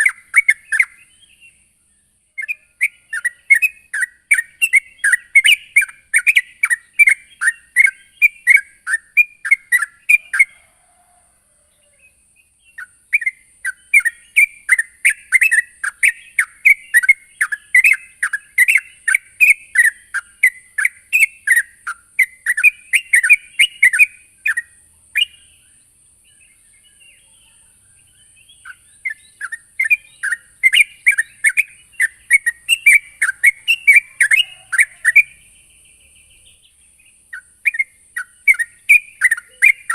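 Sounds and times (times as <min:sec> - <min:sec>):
bird chattering song: 0:00.0 - 0:10.8, 0:11.8 - 0:39.9.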